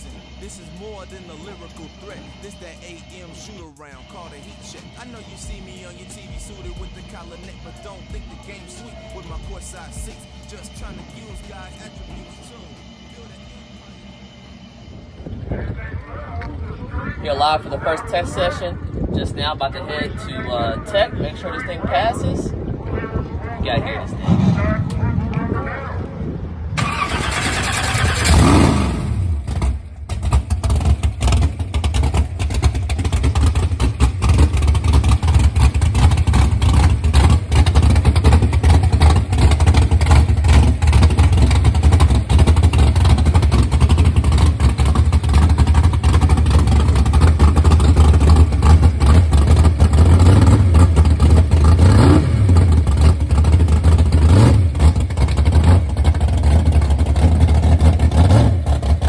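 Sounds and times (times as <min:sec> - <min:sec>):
race car engine idling and revving: 0:00.0 - 0:59.0.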